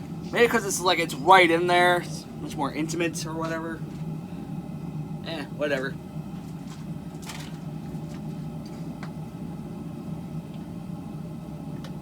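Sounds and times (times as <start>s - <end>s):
shop equipment humming: 0.0s - 12.0s.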